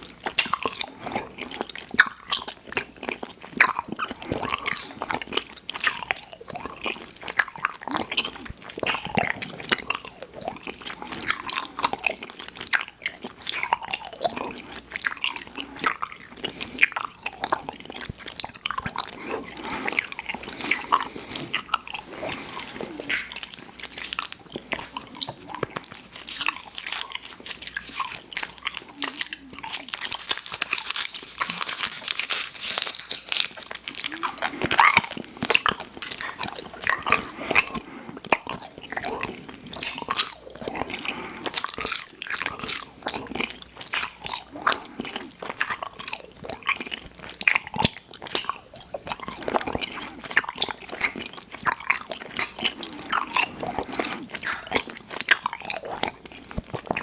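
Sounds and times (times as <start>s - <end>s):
person chewing sweets: 0.0s - 57.0s.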